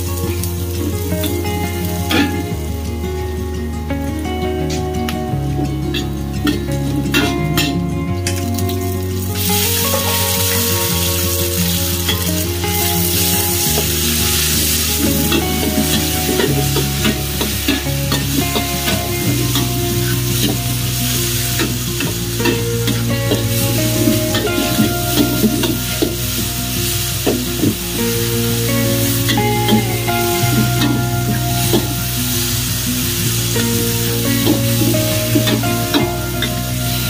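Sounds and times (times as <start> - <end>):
meat sizzling in a wok: 0.0 - 2.8, 8.5 - 37.0.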